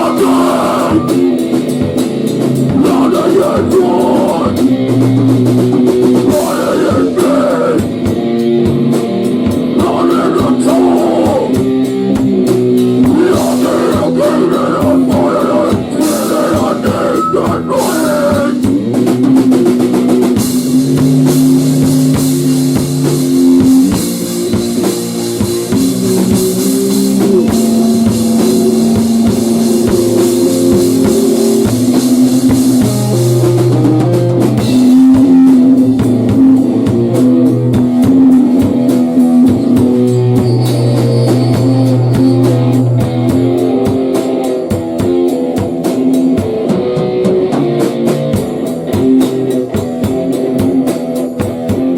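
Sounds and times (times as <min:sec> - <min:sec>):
rock band playing: 0:00.0 - 0:51.9.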